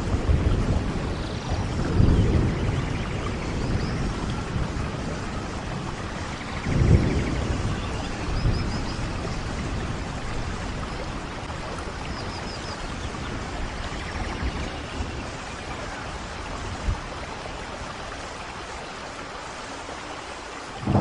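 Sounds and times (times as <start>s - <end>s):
low rumble of thunder: 0.0s - 18.2s, 20.8s - 21.0s
steady rain: 0.0s - 21.0s.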